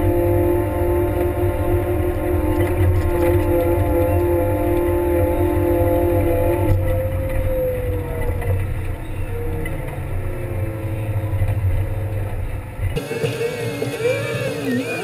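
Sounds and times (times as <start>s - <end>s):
wheel loader engine drone: 0.0s - 15.0s.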